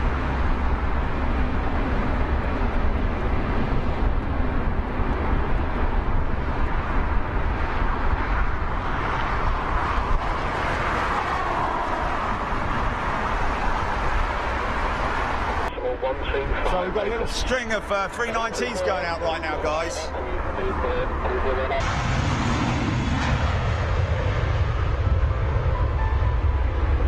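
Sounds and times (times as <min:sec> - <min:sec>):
jet engines roaring at takeoff: 0:00.0 - 0:27.0.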